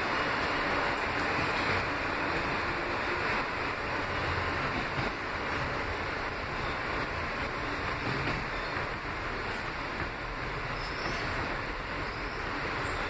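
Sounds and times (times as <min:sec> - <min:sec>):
subway car wheels on rails: 0:00.0 - 0:13.0.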